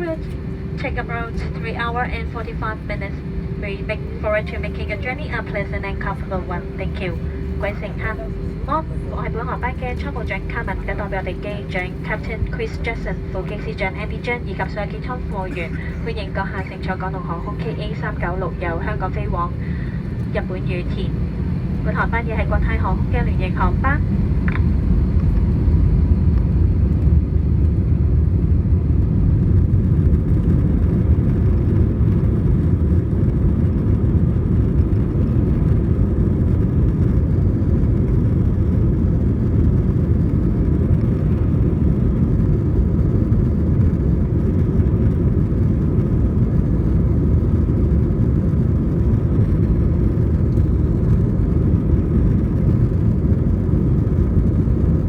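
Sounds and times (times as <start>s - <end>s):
aircraft cabin engine rumble: 0.0s - 55.0s
faint steady whining tones: 0.0s - 55.0s.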